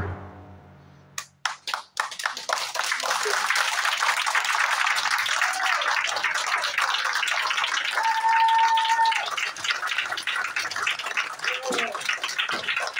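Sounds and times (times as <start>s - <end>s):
audience applauding: 1.2s - 12.9s.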